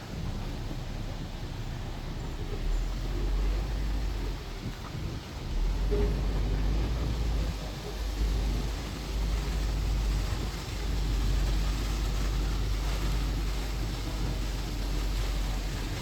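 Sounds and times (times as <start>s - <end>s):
bus engine rumble: 0.0s - 16.0s
rain hiss: 0.0s - 16.0s.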